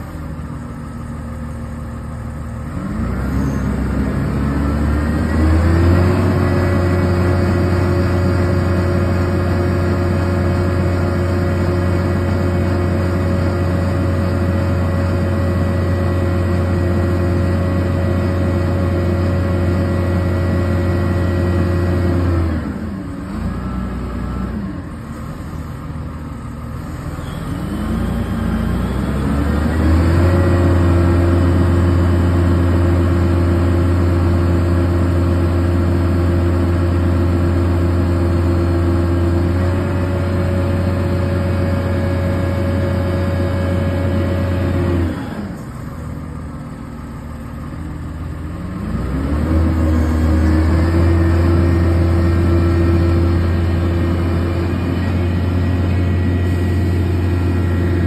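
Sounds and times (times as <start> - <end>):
crane diesel engine revving: 0.0 - 58.0.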